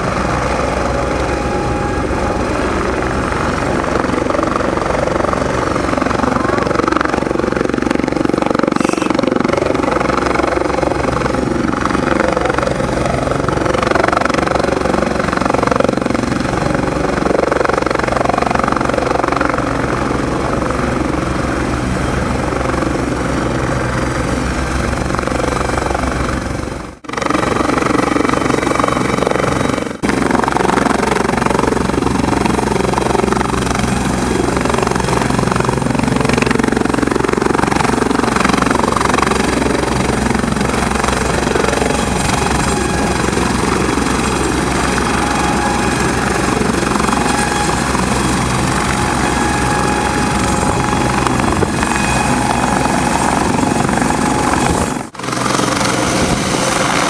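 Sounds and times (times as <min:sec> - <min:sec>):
helicopter rotor beat: 0:00.0 - 0:57.0
helicopter turbine whine: 0:00.0 - 0:57.0.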